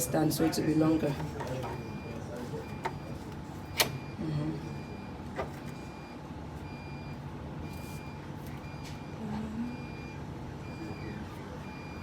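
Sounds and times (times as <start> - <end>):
reversing alarm beeping: 1.6 - 12.0.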